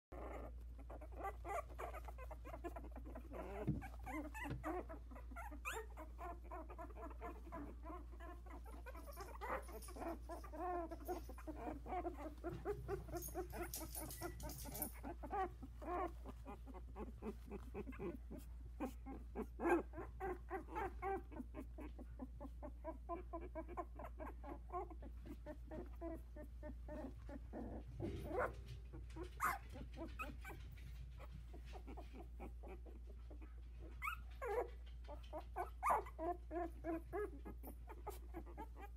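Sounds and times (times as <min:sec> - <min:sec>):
puppies whimpering and squeaking: 0:00.1 - 0:38.9
puppy yelp: 0:00.1 - 0:38.9.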